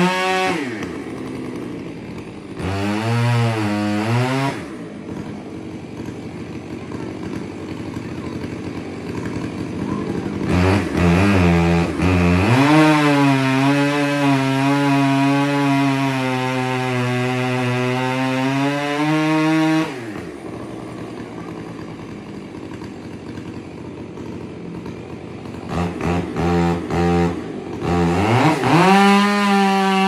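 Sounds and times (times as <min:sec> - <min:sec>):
two-stroke chainsaw revving: 0:00.0 - 0:30.0.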